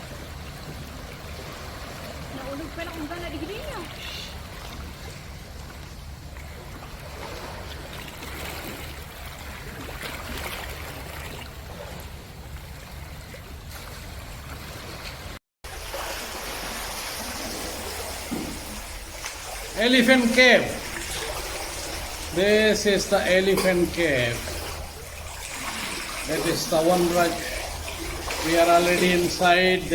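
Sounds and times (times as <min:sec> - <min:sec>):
water rushing and trickling: 0:00.0 - 0:29.9.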